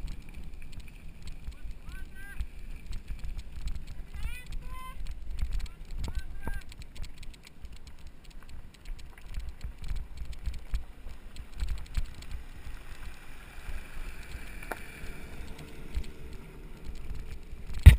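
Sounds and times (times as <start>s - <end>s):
mountain bike rattling and clicking: 0.0s - 17.9s
wind rumble: 0.0s - 17.9s.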